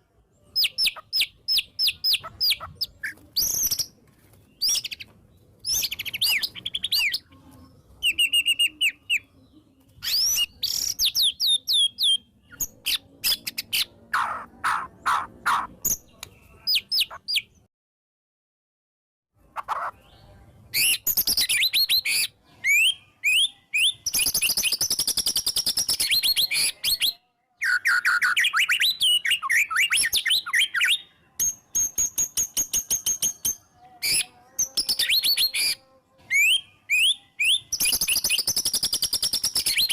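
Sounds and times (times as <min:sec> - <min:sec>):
songbird whistling and chattering: 0:00.4 - 0:04.0, 0:04.6 - 0:07.4, 0:08.0 - 0:09.3, 0:09.9 - 0:17.6, 0:19.6 - 0:39.9.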